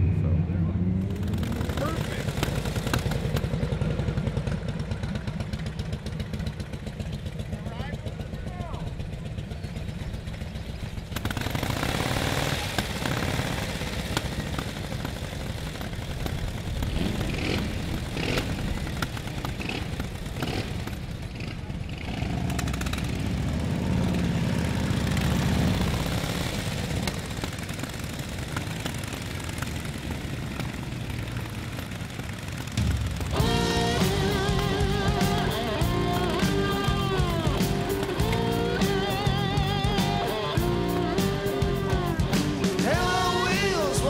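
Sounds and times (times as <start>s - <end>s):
motorcycle engines running: 0.0s - 44.0s.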